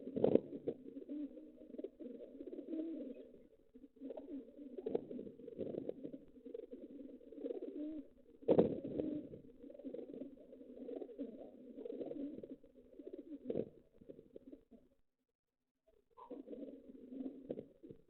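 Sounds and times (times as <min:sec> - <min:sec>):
pigeons cooing: 0:00.0 - 0:14.8, 0:16.2 - 0:18.0.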